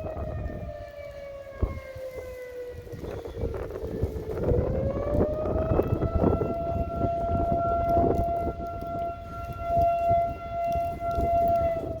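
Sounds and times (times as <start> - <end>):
warning siren wailing: 0.0 - 12.0
wind rumble on microphone: 0.0 - 12.0.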